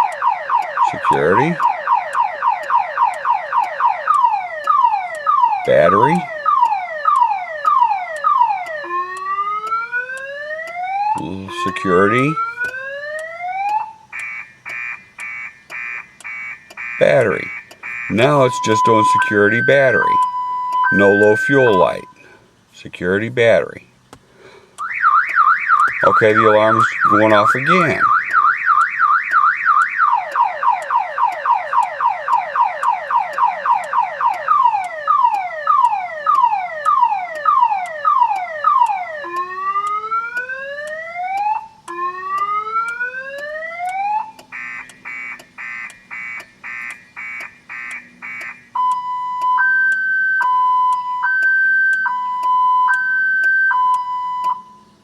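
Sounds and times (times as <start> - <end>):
car alarm siren: 0.0 - 22.3, 24.8 - 55.0.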